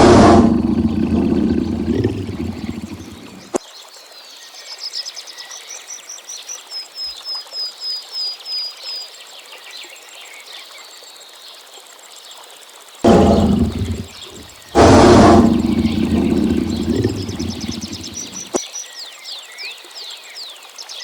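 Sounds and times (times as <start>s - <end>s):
steady forest hiss: 0.0s - 21.0s.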